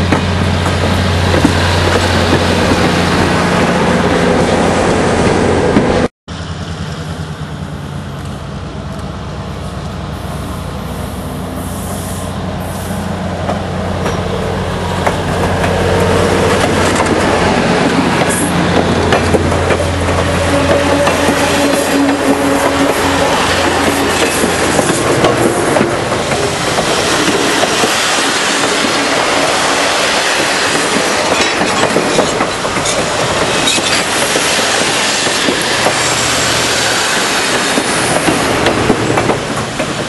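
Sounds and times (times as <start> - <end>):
diesel locomotive engine drone: 0.0 - 40.0
train wheels rumbling on rail: 0.0 - 40.0.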